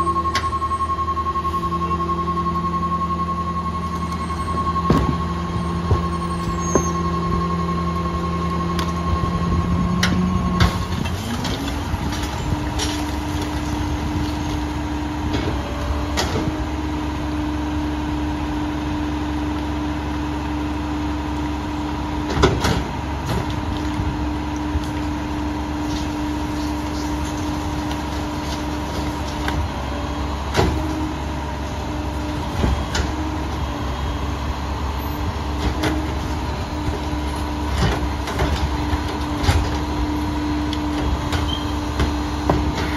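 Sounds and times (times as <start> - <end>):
garbage truck engine idling: 0.0 - 42.9
hydraulic packer blade running: 0.0 - 42.9.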